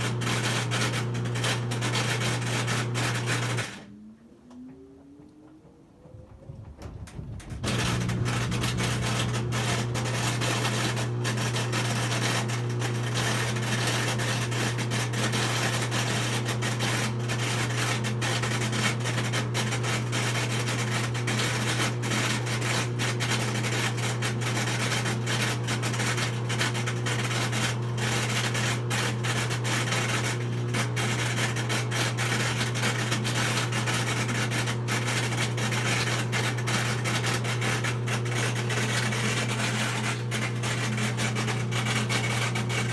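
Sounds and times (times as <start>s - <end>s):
washing machine grinding: 0.0s - 3.9s, 5.6s - 42.9s
washing machine humming: 0.0s - 42.9s.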